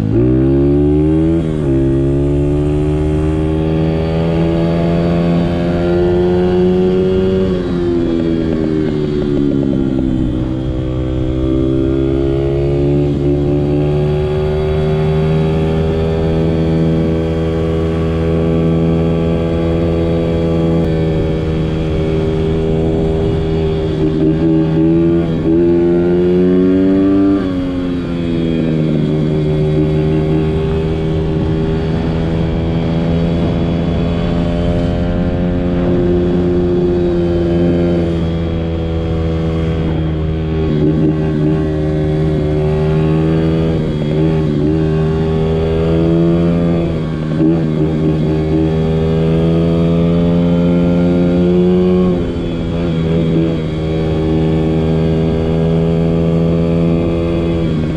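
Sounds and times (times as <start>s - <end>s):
wind rumble on camera: 0.0s - 57.9s
dirt bike engine revving: 9.3s - 57.9s.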